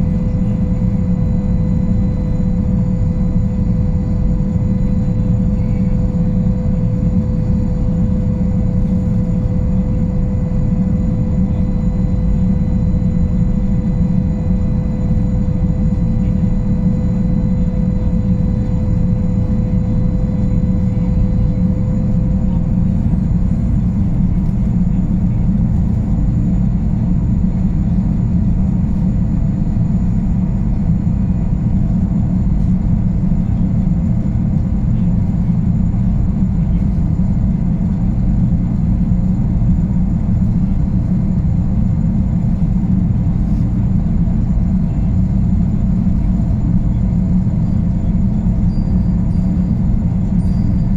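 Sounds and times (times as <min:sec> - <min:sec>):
constant whine: 0:00.0 - 0:50.9
low machinery rumble: 0:00.0 - 0:50.9.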